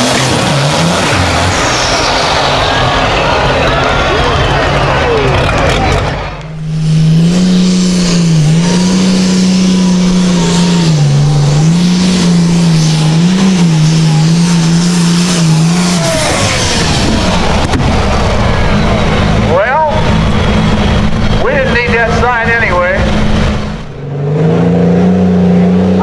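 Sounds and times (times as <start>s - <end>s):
tractor engine running hard: 0.0s - 26.0s.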